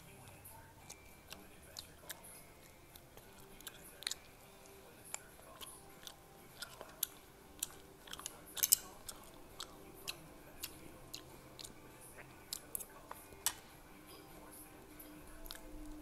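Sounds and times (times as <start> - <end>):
chewing crispy fried chicken: 0.0 - 16.0.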